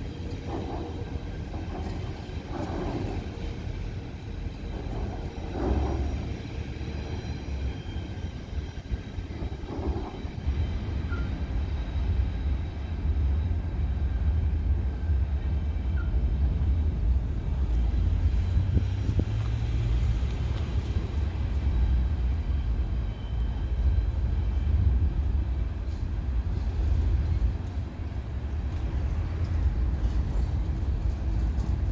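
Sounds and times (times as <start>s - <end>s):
distant passenger train rumble: 0.0s - 31.9s.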